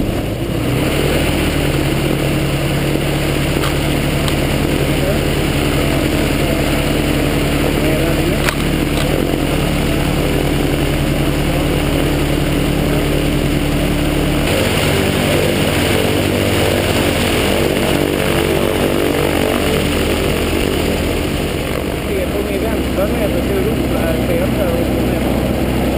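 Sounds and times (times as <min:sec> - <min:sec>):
aircraft engine and propeller: 0:00.0 - 0:25.9.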